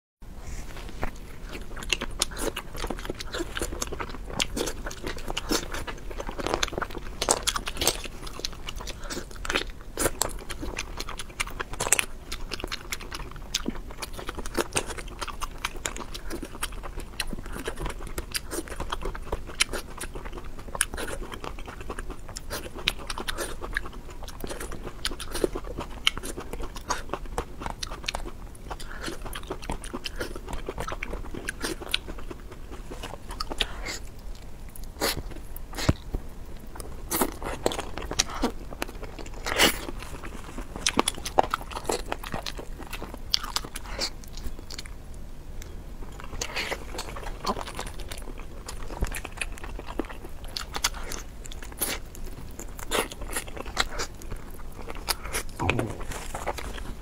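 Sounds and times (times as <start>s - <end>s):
person chewing and crunching: 0.7s - 45.0s, 45.6s - 57.0s.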